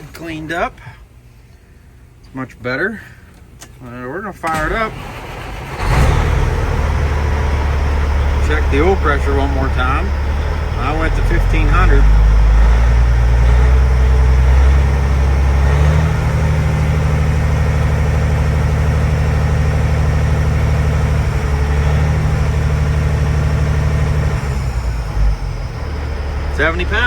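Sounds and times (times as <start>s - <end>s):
diesel truck engine running: 4.6s - 27.0s.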